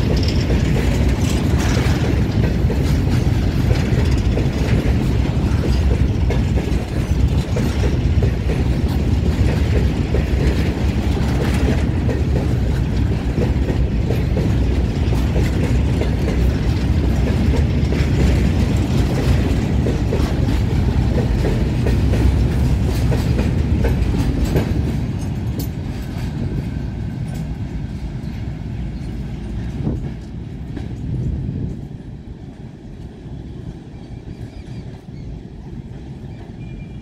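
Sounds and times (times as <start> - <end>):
freight train rumbling past: 0.0 - 37.0
wheels clacking over rail joints: 0.0 - 37.0.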